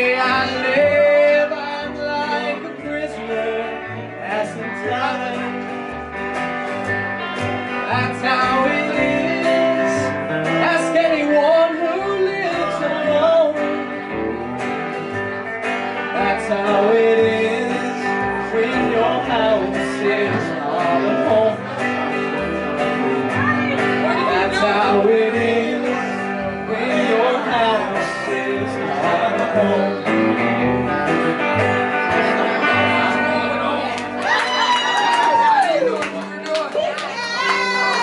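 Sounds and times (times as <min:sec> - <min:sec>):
country guitar: 0:00.0 - 0:38.0
upright bass: 0:00.0 - 0:38.0.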